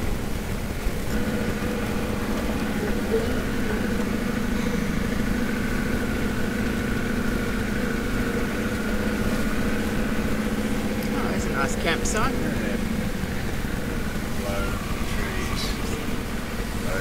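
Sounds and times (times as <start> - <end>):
car engine running inside cab: 0.0 - 17.0.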